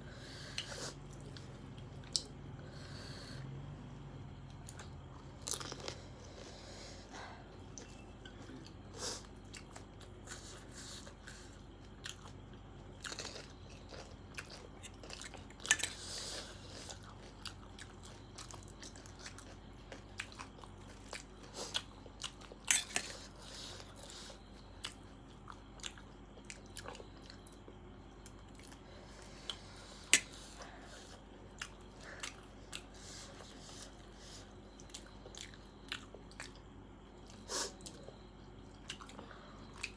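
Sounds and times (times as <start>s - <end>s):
person chewing food: 0.1s - 39.9s.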